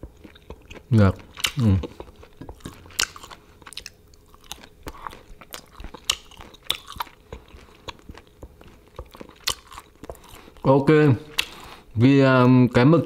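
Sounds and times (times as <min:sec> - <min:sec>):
person chewing close up: 0:00.0 - 0:12.0.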